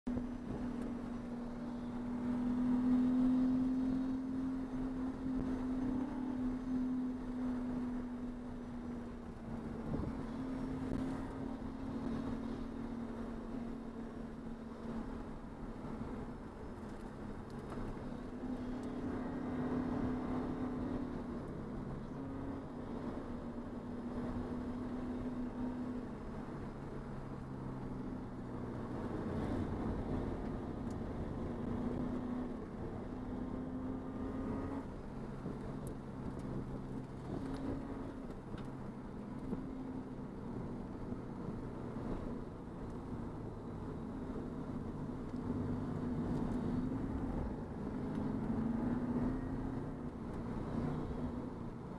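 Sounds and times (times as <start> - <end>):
race car engine running: 0.0 - 51.9.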